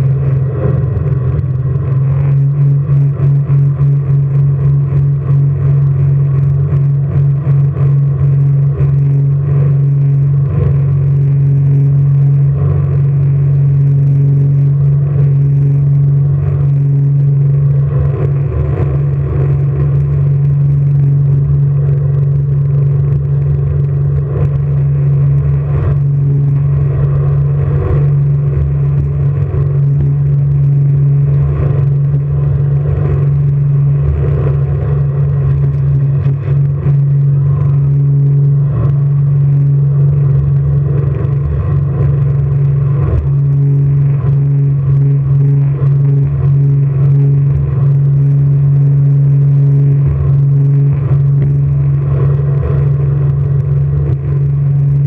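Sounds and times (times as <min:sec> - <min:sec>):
boat engine running hard: 0:00.0 - 0:55.0.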